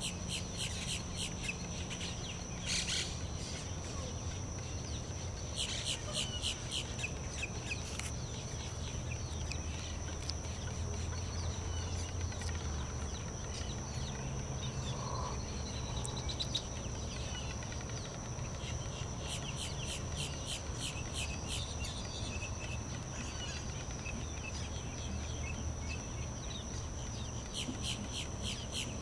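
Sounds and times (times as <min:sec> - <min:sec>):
steady high-pitched whine: 0:00.0 - 0:29.0.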